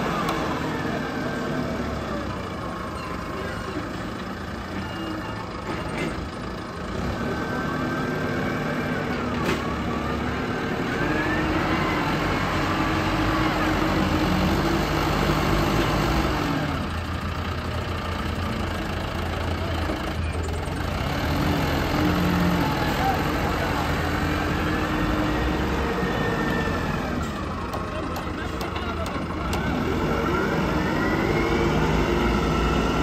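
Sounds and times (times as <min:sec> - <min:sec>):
diesel engine revving under load: 0:00.0 - 0:33.0.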